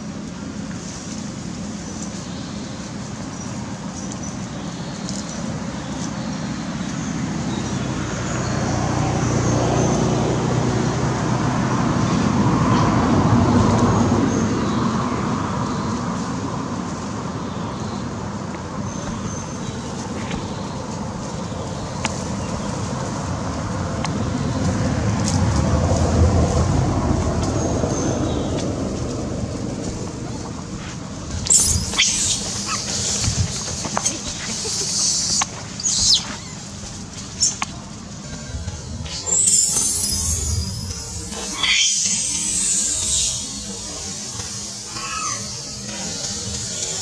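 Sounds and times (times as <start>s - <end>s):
road traffic engine drone: 0.0s - 47.0s
vehicles passing: 0.0s - 47.0s.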